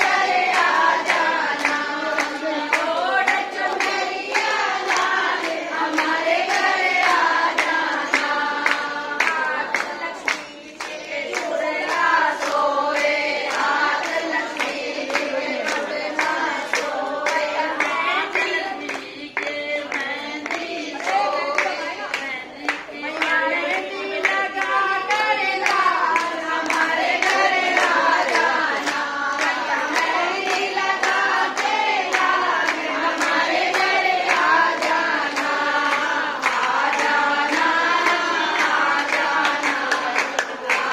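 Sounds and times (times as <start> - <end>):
hands clapping in rhythm: 0.0 - 40.9
women singing devotional song: 0.0 - 40.9.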